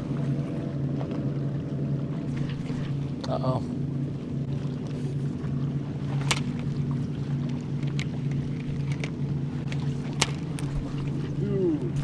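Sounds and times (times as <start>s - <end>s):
electric trolling motor humming: 0.0s - 12.0s.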